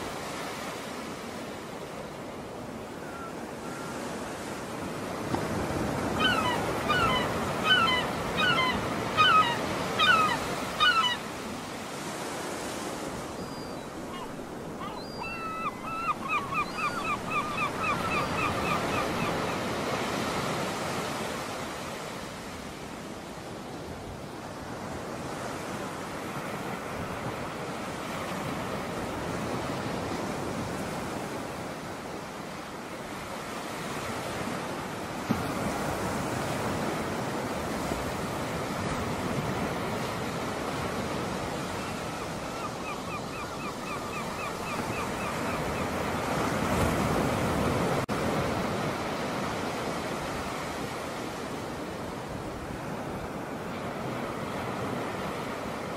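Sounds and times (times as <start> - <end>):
waves washing on sandy shore: 0.0 - 14.8, 18.0 - 55.9.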